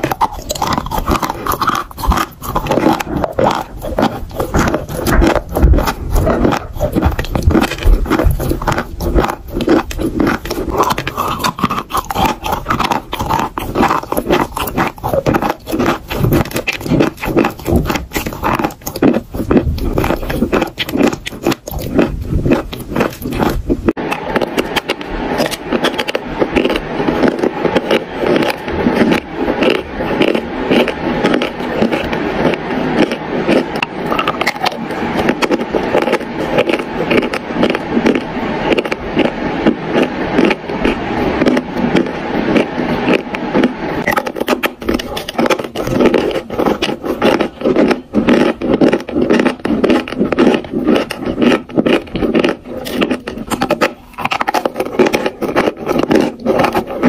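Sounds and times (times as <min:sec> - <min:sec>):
crunching chalk between teeth: 0:00.0 - 0:57.0.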